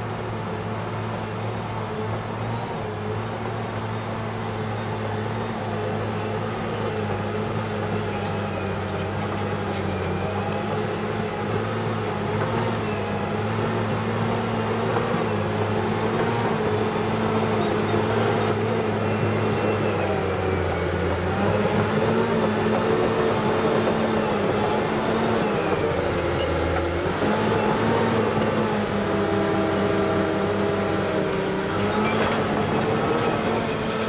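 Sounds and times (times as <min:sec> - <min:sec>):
diesel engine under load: 0:00.0 - 0:34.0.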